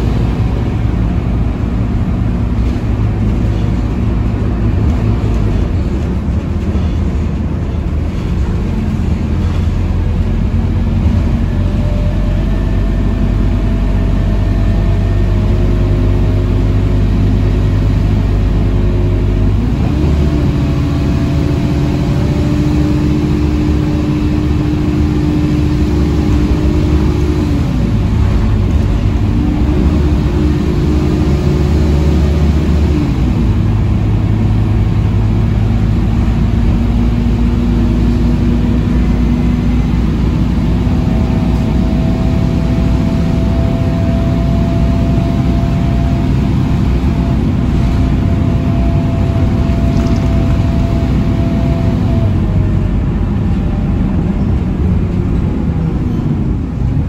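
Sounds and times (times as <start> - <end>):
bus diesel engine running: 0.0 - 57.0
road and tyre noise: 0.0 - 57.0.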